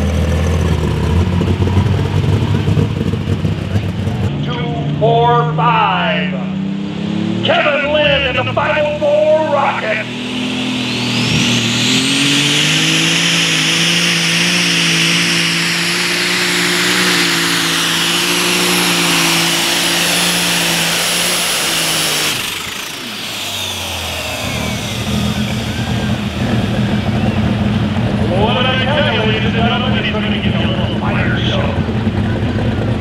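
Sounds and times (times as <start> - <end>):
tractor engine revving: 0.0 - 33.0.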